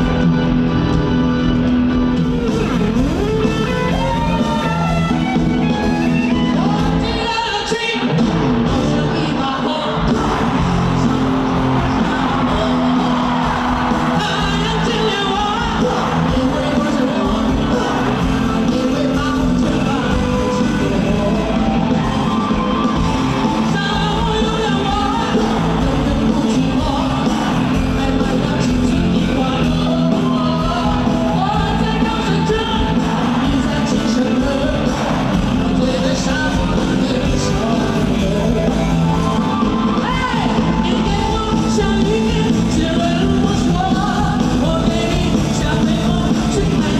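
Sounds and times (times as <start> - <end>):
live band playing rock-pop: 0.0 - 46.9
person singing: 5.8 - 46.9.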